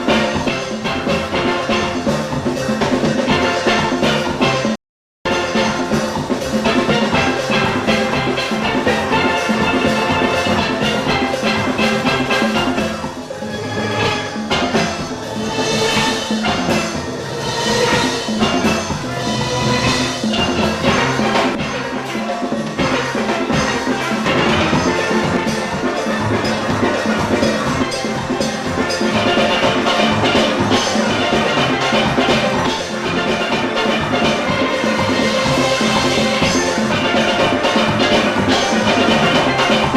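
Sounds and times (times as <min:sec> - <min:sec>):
drums and percussion: 0:00.0 - 0:39.9
steelpans playing tune: 0:05.3 - 0:39.9.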